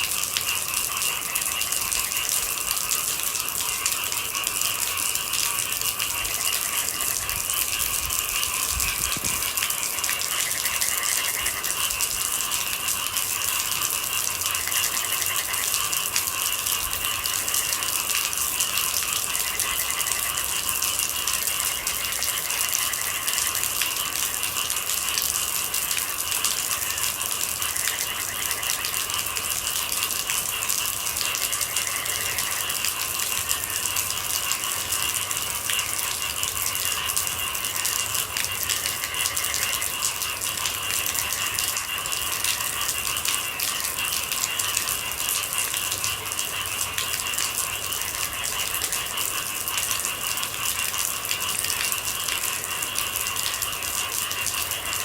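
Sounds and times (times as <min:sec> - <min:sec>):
night insects trilling: 0:00.0 - 0:55.0
steady rain: 0:00.0 - 0:55.0.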